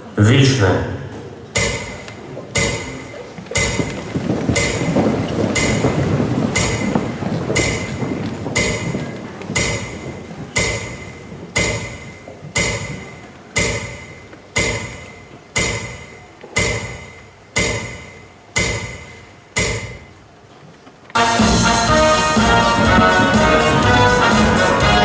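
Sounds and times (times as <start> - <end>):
metronome beating: 1.6 - 20.3, 21.2 - 25.0.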